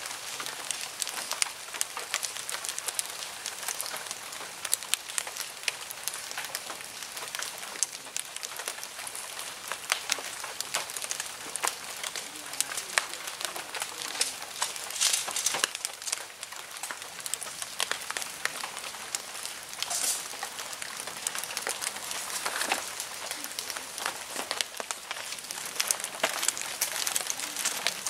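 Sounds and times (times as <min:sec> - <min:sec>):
dry leaves and nylon crackling: 0:00.0 - 0:28.0.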